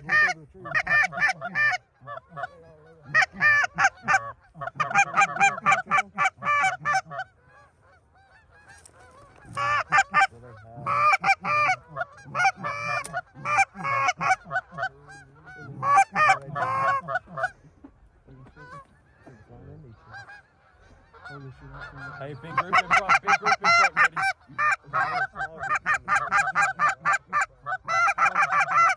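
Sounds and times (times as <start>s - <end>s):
goose honking: 0.0s - 28.9s.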